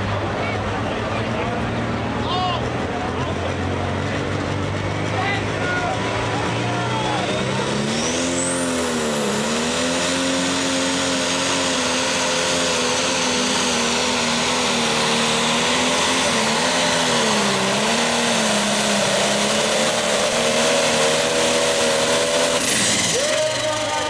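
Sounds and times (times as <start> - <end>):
diesel tractor engine at full power: 0.0 - 24.0.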